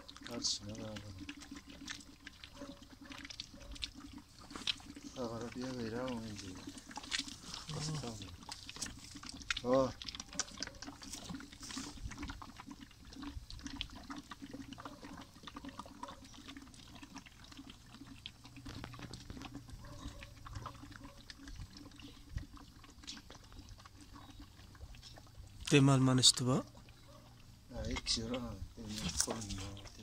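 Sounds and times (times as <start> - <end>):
calf slurping from bottle: 0.0 - 30.0.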